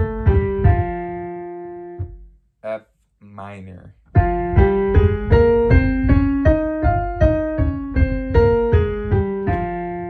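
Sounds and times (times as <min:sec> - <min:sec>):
digital piano scale: 0:00.0 - 0:02.2, 0:04.1 - 0:10.0.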